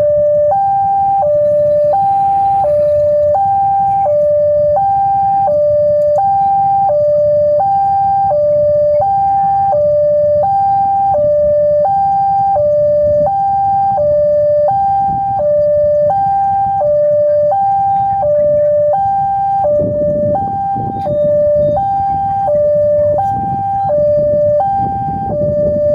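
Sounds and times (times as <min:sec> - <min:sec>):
electronic two-tone siren: 0:00.0 - 0:25.9.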